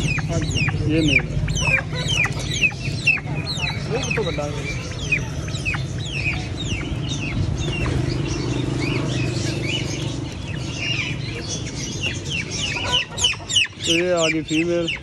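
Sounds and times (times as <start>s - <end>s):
birds chirping: 0.0s - 15.0s
poultry clucking: 0.0s - 15.0s.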